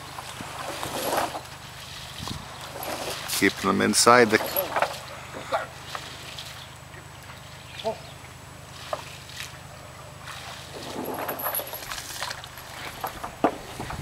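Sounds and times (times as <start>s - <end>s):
water sloshing: 0.0s - 8.0s, 8.6s - 14.0s
low steady hum: 0.0s - 14.0s.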